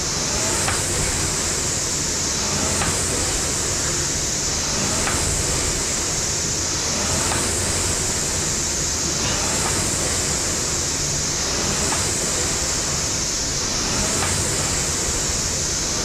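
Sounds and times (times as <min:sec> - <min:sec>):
rowing machine fan whooshing: 0:00.0 - 0:16.0.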